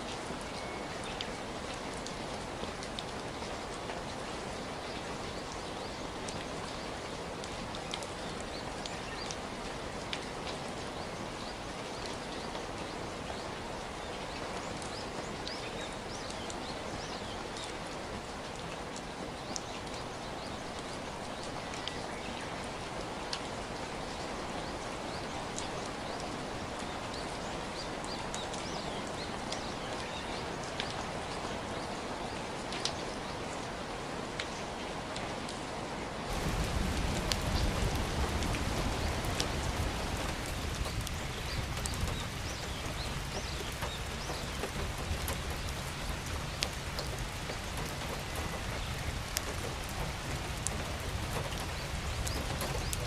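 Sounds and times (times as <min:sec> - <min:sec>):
raindrops ticking on a surface: 0:00.0 - 0:53.0
steady rain: 0:00.0 - 0:53.0.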